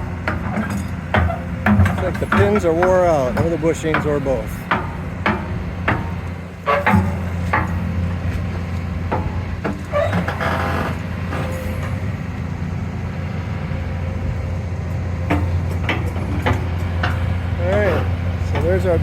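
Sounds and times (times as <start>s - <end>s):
metal knocks and clanks: 0.0s - 12.2s, 15.2s - 19.0s
diesel engine running under load: 0.0s - 19.0s.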